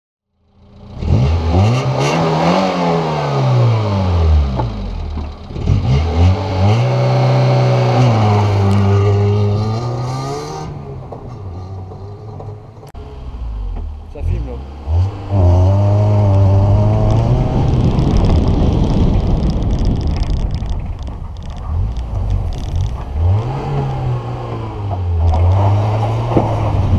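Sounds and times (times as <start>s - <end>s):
car engine revving: 0.5s - 26.9s.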